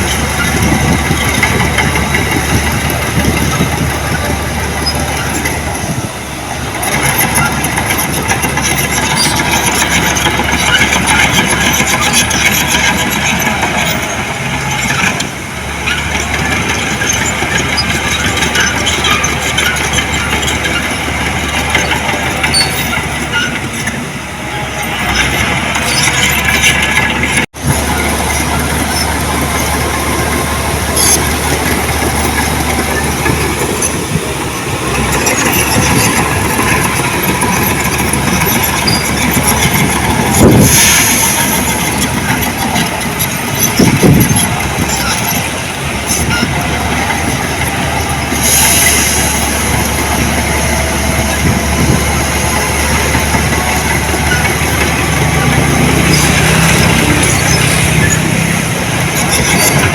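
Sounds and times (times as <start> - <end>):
heavy diesel machinery running: 0.0 - 59.9
metal clanks and rattles: 6.7 - 24.0, 25.0 - 59.9.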